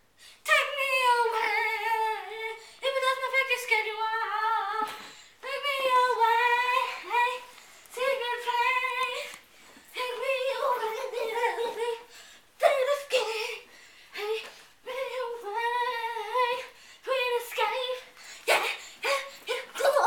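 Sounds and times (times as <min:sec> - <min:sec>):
person singing high-pitched: 0:00.5 - 0:20.0.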